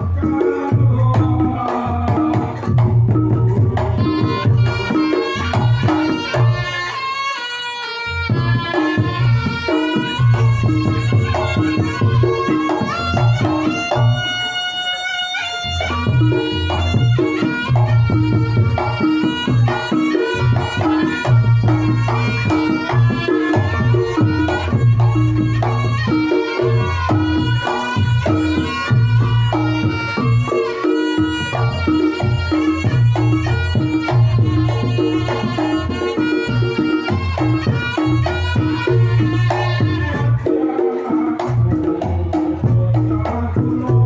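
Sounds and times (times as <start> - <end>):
hand drums: 0.0 - 44.0
reedy shawm melody: 0.0 - 44.0.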